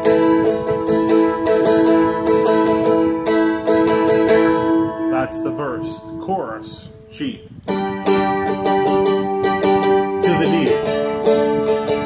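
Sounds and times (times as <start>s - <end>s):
dulcimer strummed: 0.0s - 6.4s, 7.6s - 12.0s.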